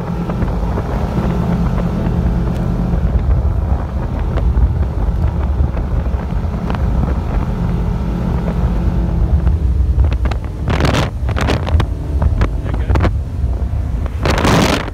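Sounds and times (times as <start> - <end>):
motorboat engine droning: 0.0 - 14.9
wind buffeting microphone: 0.0 - 14.9.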